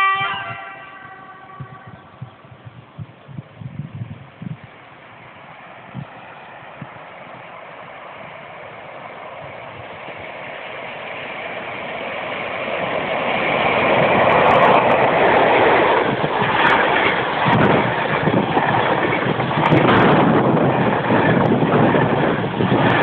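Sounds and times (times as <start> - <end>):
train wheels rushing on rail: 0.0 - 23.0.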